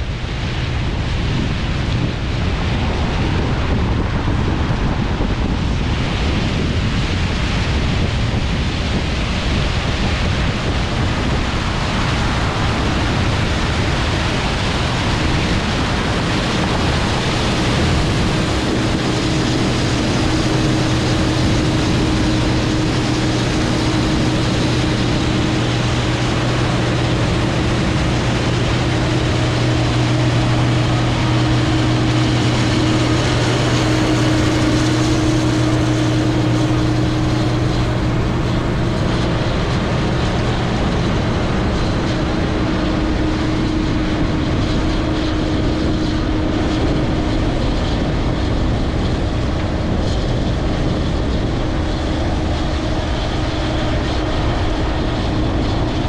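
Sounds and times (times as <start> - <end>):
combine engine hum: 0.0 - 56.0
drone propeller whine: 0.0 - 56.0.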